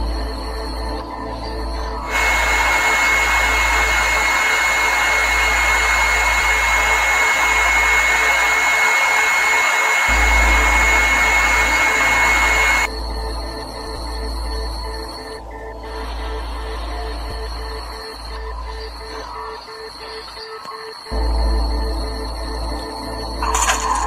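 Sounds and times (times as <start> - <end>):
low droning hum: 0.0 - 20.5, 21.1 - 24.0
steady high whistle: 0.0 - 24.0
harsh static hiss: 1.6 - 24.0.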